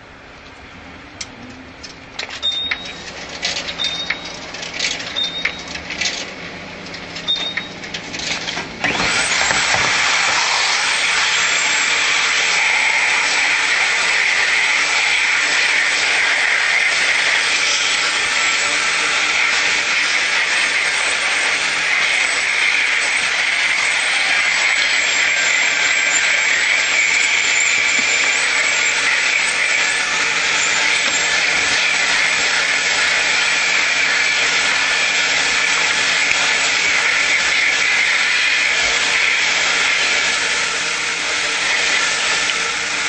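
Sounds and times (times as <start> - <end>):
vacuum cleaner motor hissing: 8.5 - 43.0.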